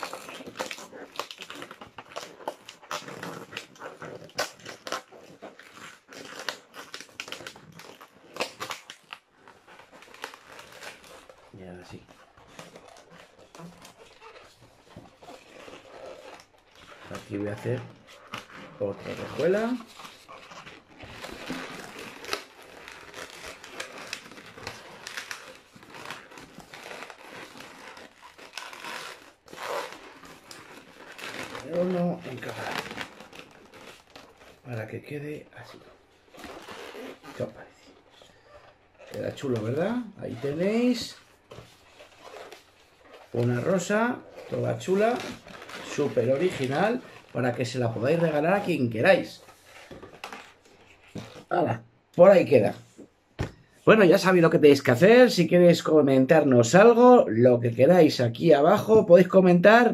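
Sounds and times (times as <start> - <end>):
balloons squeaking and rubbing: 0.0 - 59.9.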